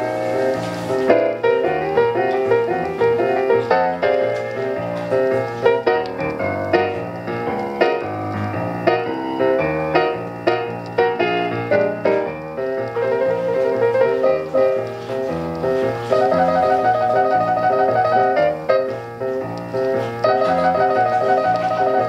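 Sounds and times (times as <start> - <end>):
piano music from a record: 0.0 - 22.0.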